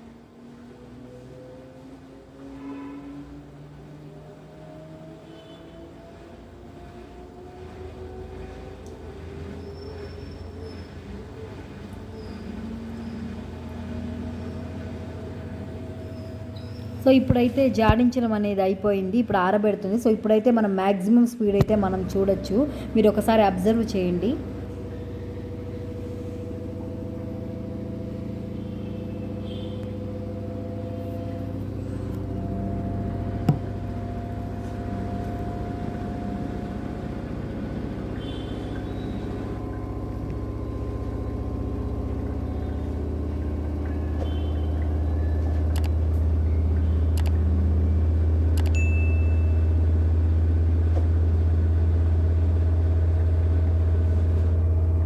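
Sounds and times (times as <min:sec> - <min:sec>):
washing machine spinning hum: 0:00.0 - 0:55.0.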